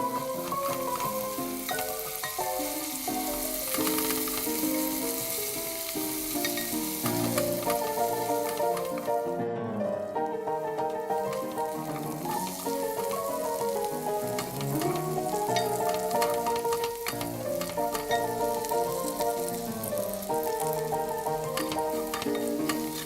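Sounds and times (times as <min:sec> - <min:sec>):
food sizzling in a pan: 0:00.0 - 0:09.3, 0:10.6 - 0:23.0
light background music: 0:00.0 - 0:23.0.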